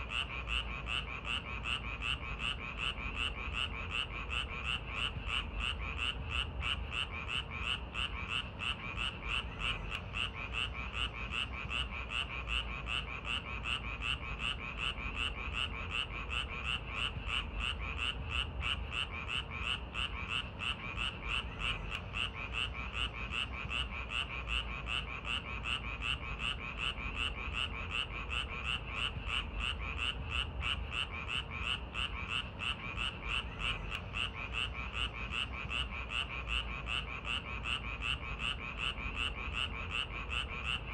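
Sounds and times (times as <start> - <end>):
faint low background rumble: 0.0 - 40.9
frogs croaking in chorus: 0.0 - 40.9.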